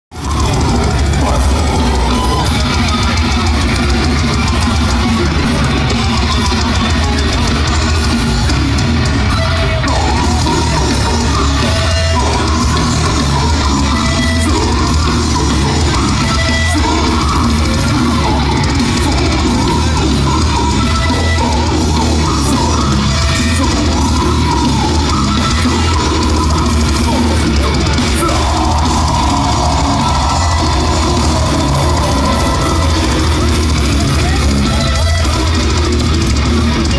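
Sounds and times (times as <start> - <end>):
distorted guitars: 0.1 - 36.9
pounding drum kit: 0.1 - 36.9.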